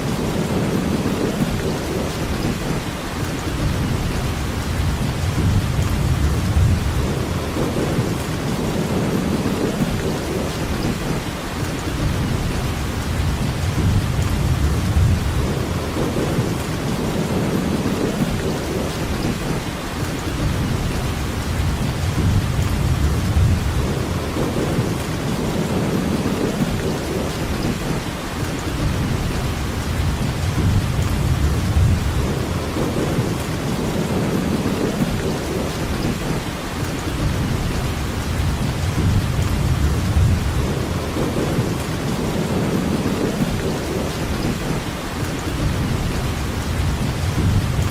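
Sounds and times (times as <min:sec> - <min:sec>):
heavy rain hissing: 0:00.0 - 0:47.9
low rolling thunder: 0:00.1 - 0:47.9.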